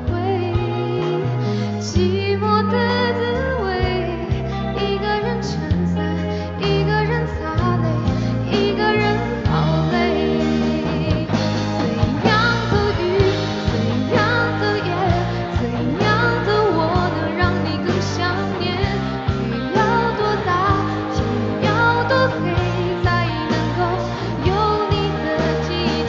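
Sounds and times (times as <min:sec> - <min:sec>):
live band accompaniment: 0:00.0 - 0:26.0
person singing: 0:00.0 - 0:26.0.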